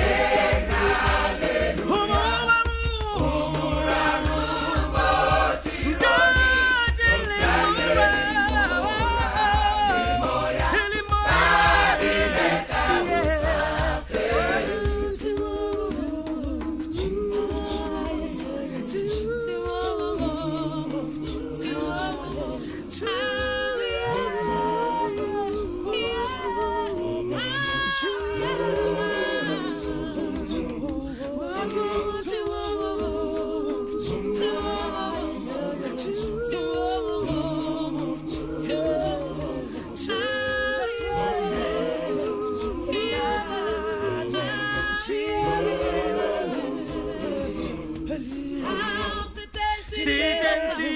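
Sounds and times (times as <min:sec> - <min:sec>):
group singing a cappella: 0:00.0 - 0:50.9.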